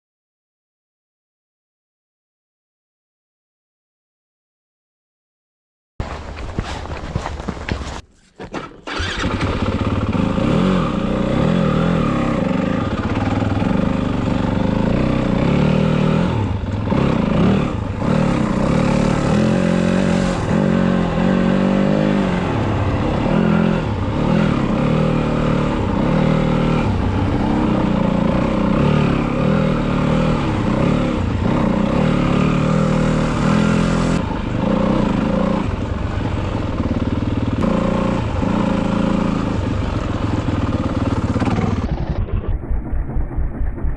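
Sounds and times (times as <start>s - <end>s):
motorbike engine revving: 6.0s - 43.9s.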